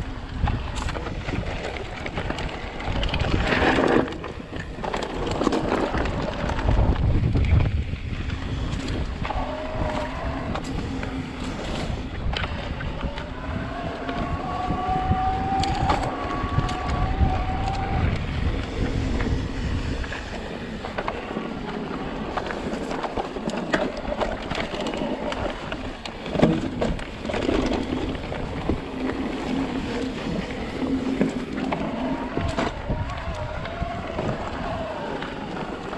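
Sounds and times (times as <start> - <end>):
wind on microphone: 0.0 - 35.9
electric bike motor whining: 0.1 - 35.9.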